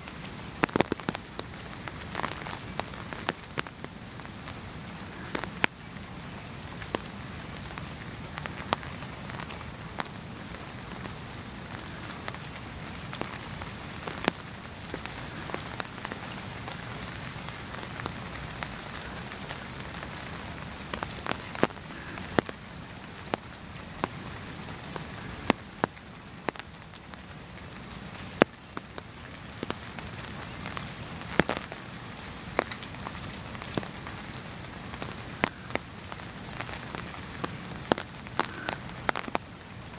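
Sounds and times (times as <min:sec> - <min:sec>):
raindrops tapping close by: 0:00.0 - 0:39.9
steady rain: 0:00.0 - 0:39.9.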